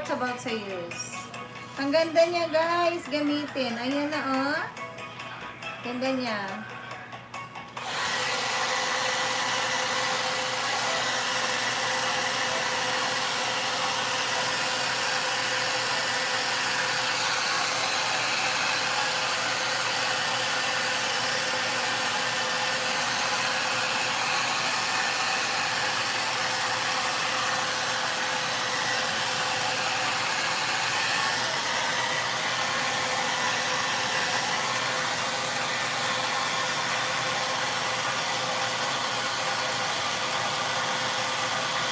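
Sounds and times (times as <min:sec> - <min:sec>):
hair dryer running: 0:00.0 - 0:04.8, 0:07.6 - 0:41.9.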